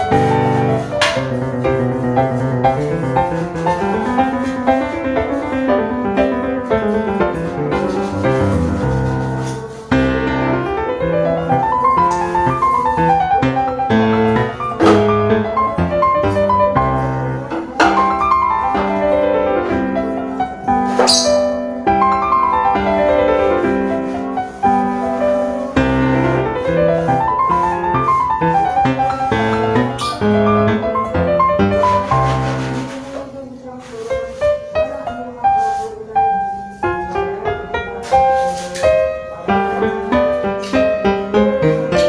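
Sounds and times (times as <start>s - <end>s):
background piano music: 0.0s - 42.0s.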